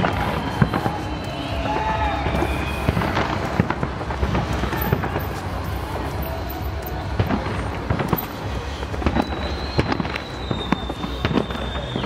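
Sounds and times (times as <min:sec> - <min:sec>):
firework bangs: 0:00.0 - 0:12.0
steady background din: 0:00.0 - 0:12.0.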